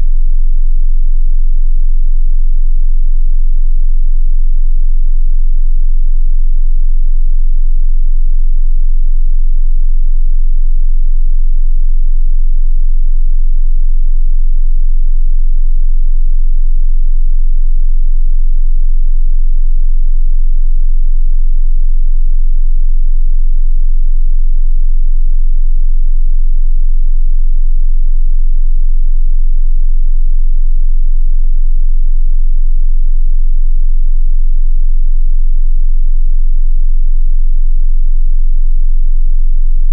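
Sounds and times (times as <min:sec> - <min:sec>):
sub-bass sine tone: 0:00.0 - 0:39.9.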